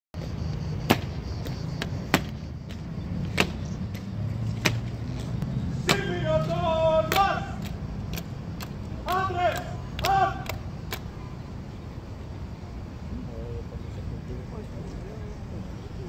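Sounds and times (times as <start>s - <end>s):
city traffic rumble: 0.1s - 16.0s.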